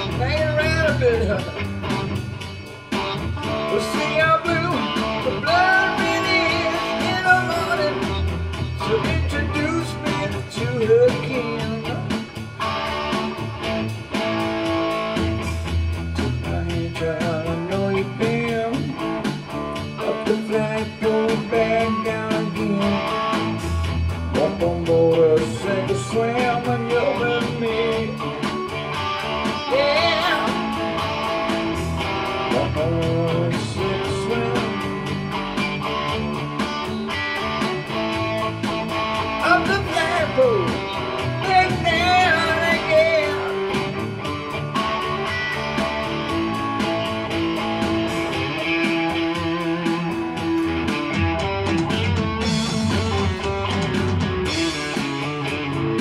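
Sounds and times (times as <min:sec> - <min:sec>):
electric guitar with bent notes: 0:00.0 - 0:56.0.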